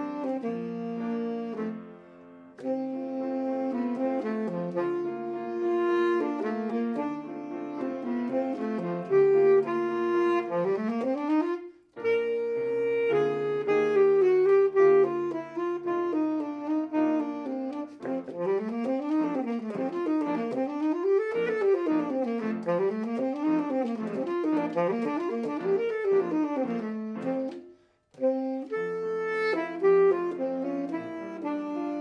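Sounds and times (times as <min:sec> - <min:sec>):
tenor saxophone solo: 0:00.0 - 0:32.0.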